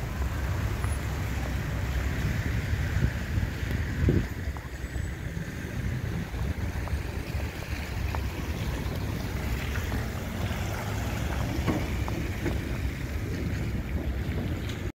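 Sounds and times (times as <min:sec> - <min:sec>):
street noise rumble: 0:00.0 - 0:14.9
wind buffeting microphone: 0:00.0 - 0:14.9.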